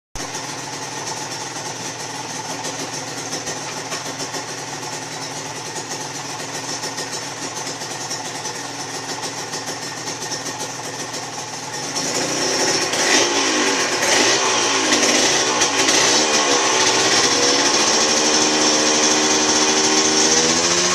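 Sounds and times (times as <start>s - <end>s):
motorcycle engine idling and revving: 0.2s - 20.9s.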